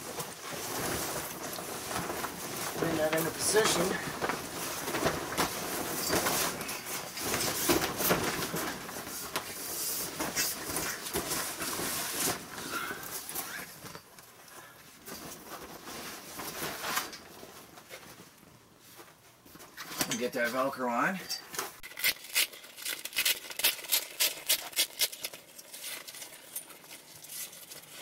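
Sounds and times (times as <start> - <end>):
plastic canvas rustling and crinkling: 0.0 - 28.0.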